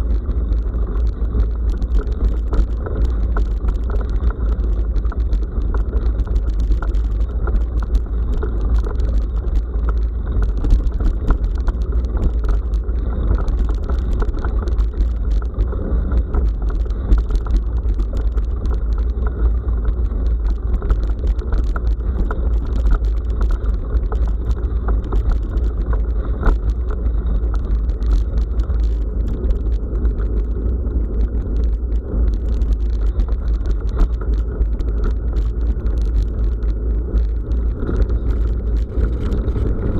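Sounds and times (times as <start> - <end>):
bicycle knocks and rattles: 0.0 - 39.9
wind and tyre rumble: 0.0 - 39.9.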